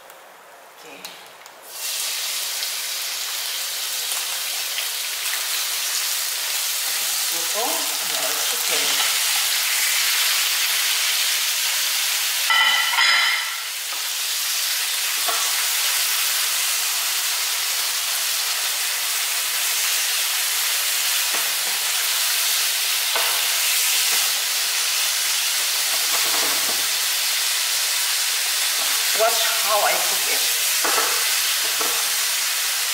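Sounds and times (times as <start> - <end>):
food sizzling in oil: 1.6 - 32.9.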